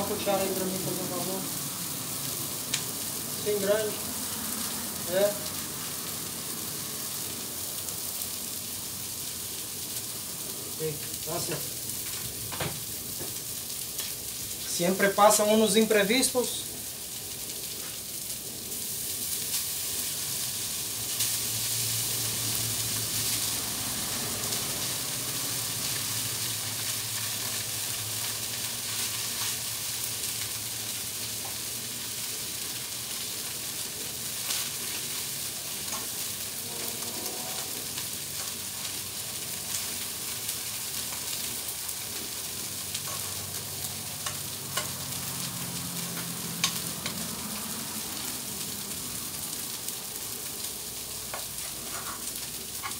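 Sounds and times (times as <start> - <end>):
food sizzling on a griddle: 0.0 - 52.9.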